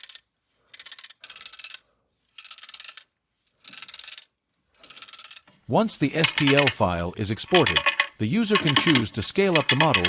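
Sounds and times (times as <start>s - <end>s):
plastic fidget toy clicking: 0.0s - 1.8s, 2.4s - 3.1s, 3.7s - 5.6s, 6.2s - 10.0s.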